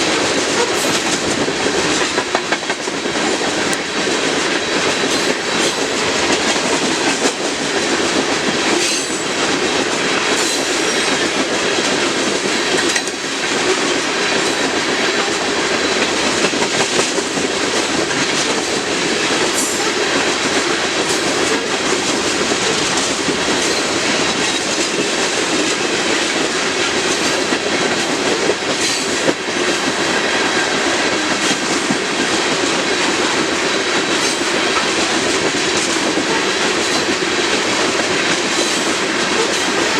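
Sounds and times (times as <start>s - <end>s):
freight cars rumbling on rails: 0.0s - 39.9s
wheels clicking over rail joints: 0.1s - 39.9s.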